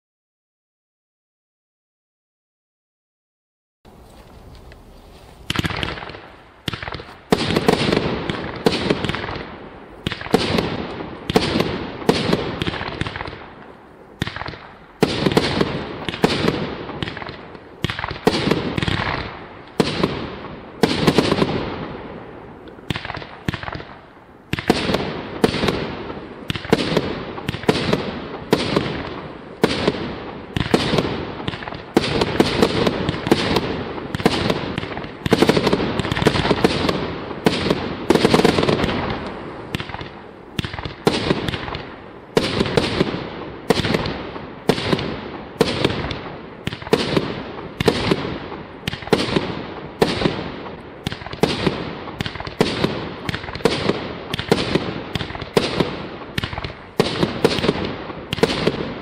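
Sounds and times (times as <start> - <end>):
firework barrage bangs: 5.4 - 59.0.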